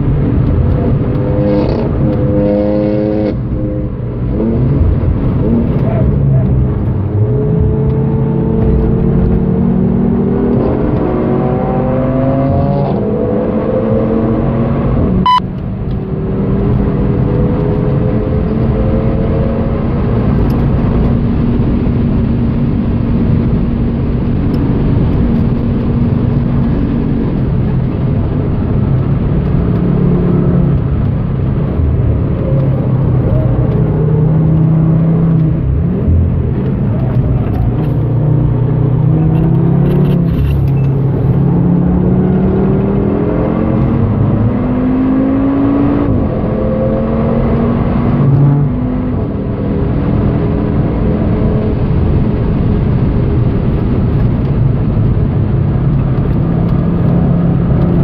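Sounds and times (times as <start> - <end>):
car engines at full throttle: 0.0 - 58.0.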